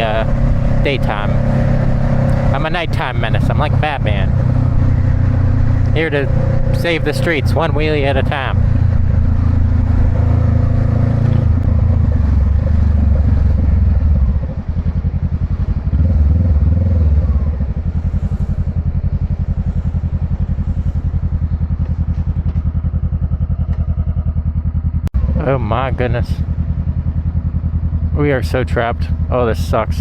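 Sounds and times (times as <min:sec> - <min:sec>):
motorcycle engine revving and idling: 0:00.0 - 0:30.0.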